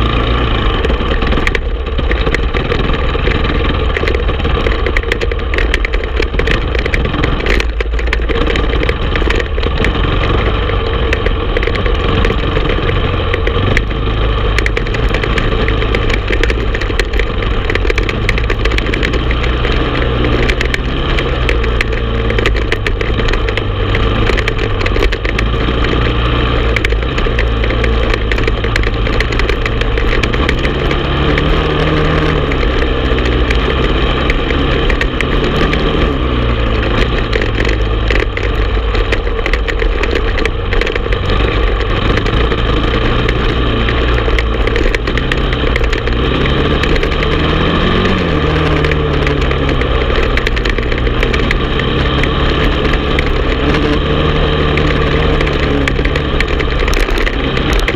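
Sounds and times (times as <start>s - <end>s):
atv engine revving: 0.0s - 57.9s
wind and trail noise: 0.0s - 57.9s.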